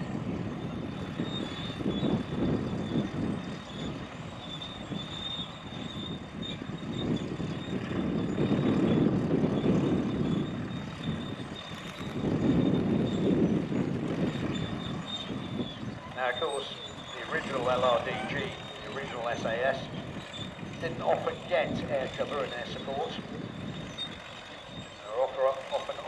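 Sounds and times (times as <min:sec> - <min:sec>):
outdoor engine noise: 0:00.0 - 0:26.0.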